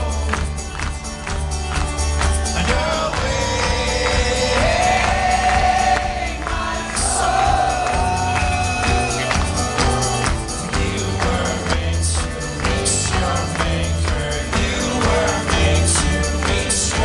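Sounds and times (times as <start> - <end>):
kick drum beat: 2.4 - 17.0
voices singing long notes: 2.5 - 17.0.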